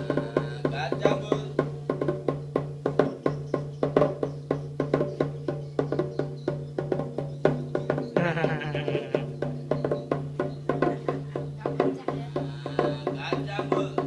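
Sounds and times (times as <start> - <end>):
hand-struck percussion beat: 0.0 - 14.0.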